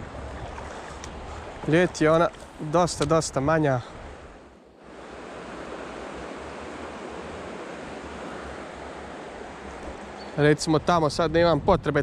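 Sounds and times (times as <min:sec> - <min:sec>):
river rushing: 0:00.0 - 0:10.8.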